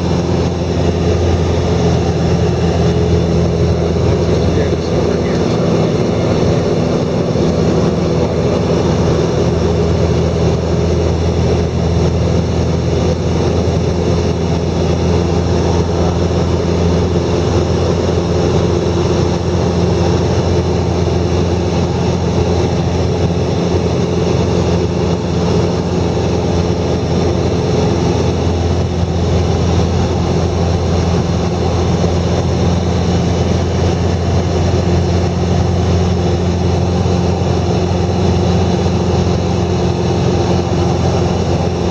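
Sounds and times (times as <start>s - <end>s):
heavy engine humming: 0.0s - 41.9s.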